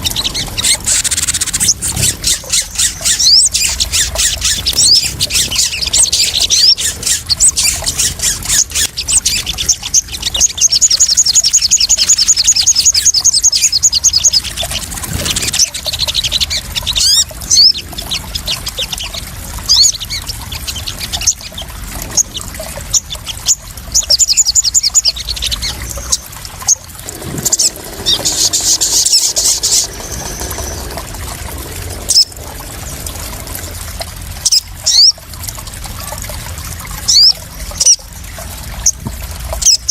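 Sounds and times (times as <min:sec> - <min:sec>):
birds chirping and calling: 0:00.0 - 0:35.2, 0:37.0 - 0:39.9
splashing trickling water: 0:00.0 - 0:39.9.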